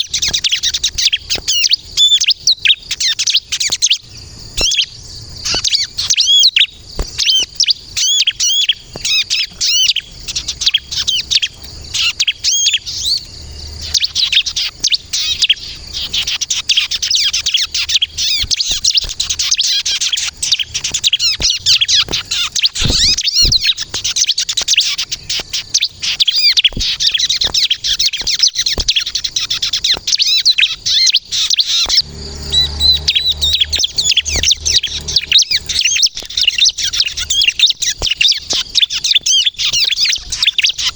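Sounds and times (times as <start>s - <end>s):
bird singing looping chirps: 0.0s - 40.9s.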